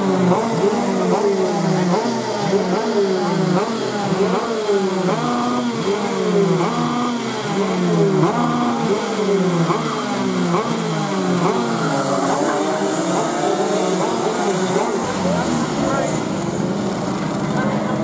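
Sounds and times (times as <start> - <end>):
kart engines passing: 0.0 - 18.0.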